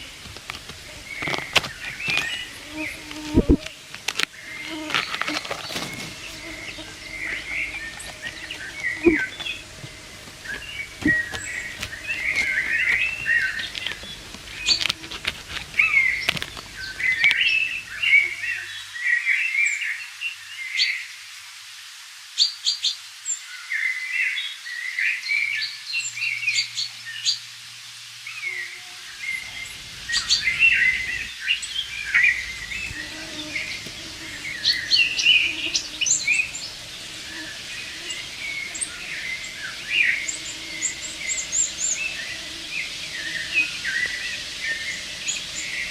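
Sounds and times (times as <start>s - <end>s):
songbirds chirping and trilling: 0.0s - 21.1s, 22.4s - 45.9s.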